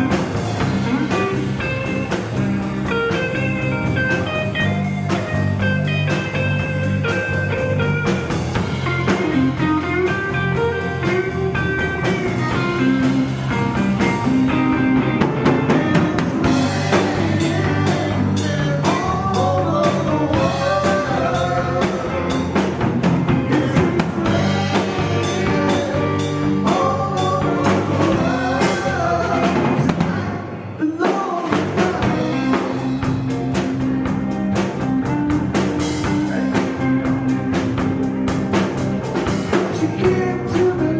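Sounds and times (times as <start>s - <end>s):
electric guitar lead: 0.0s - 30.8s, 31.5s - 40.9s
bass guitar: 0.0s - 40.9s
drum kit: 0.0s - 40.9s.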